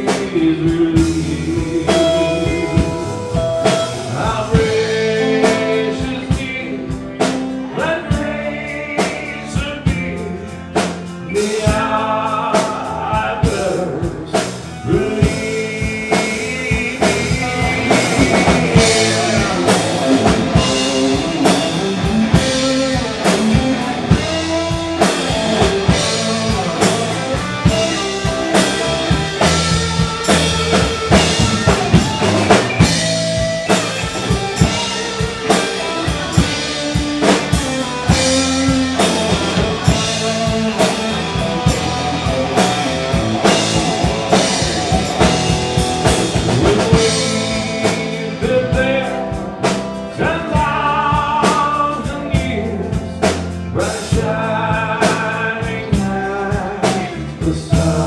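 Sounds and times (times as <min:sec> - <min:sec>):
rock band playing instrumental: 0:00.0 - 0:58.0.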